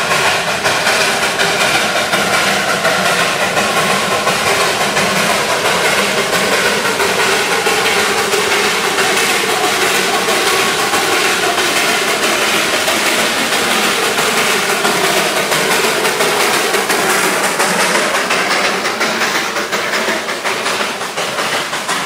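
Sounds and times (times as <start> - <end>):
steam hissing: 0.0 - 22.0
steam locomotive chuffing: 0.0 - 22.0
train running noise: 0.0 - 22.0.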